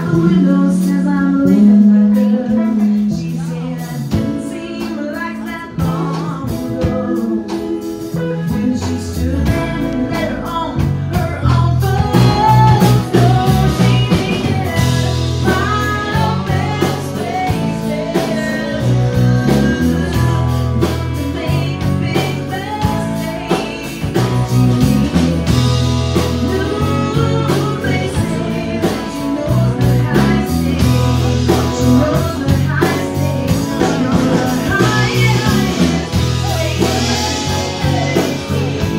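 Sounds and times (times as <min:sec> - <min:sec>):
country band playing: 0:00.0 - 0:38.9
woman singing: 0:00.0 - 0:38.9.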